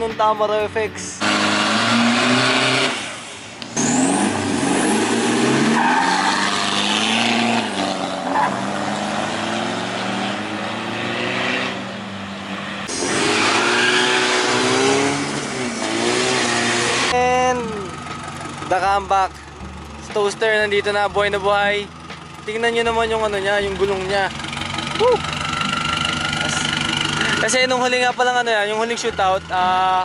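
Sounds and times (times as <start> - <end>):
diesel engines accelerating and revving: 0.0 - 30.0.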